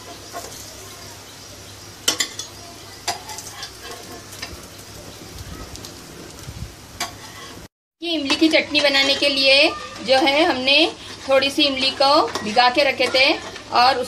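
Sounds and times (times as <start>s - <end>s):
patties sizzling in oil: 0.0s - 14.0s.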